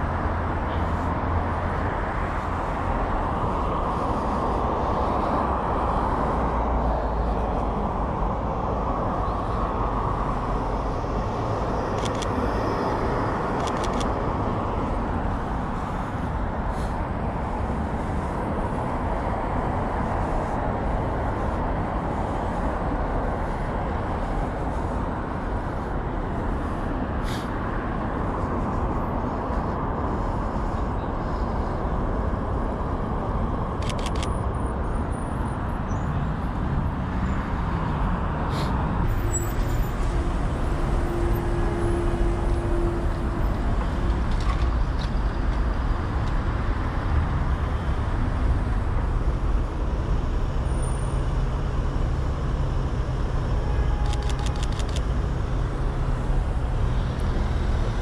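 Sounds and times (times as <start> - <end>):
cars and buses passing: 0.0 - 58.0.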